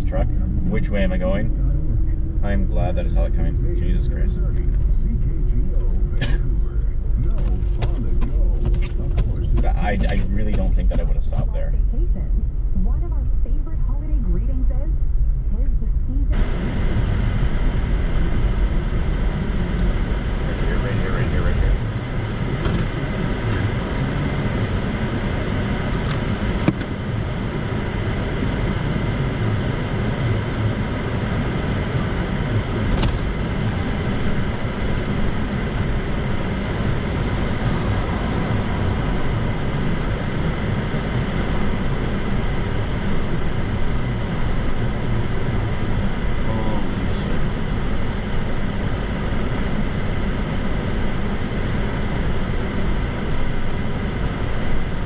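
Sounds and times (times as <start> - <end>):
car engine and tyre noise: 0.0 - 15.7, 16.3 - 55.0.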